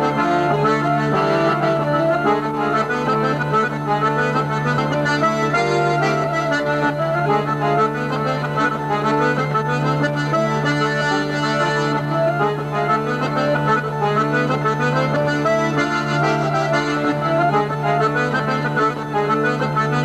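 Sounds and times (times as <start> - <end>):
folk dance tune: 0.0 - 20.0.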